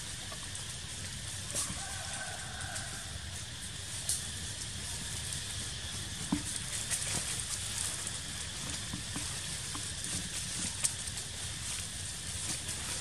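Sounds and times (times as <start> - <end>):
dry leaf litter crackling: 0.0 - 13.0
outdoor hiss: 0.0 - 13.0.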